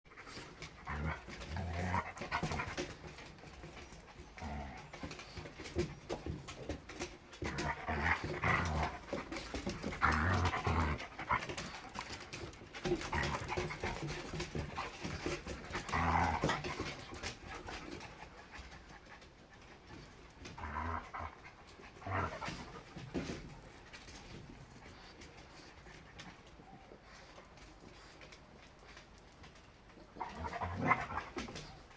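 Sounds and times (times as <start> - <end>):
dog panting: 0.1 - 31.9.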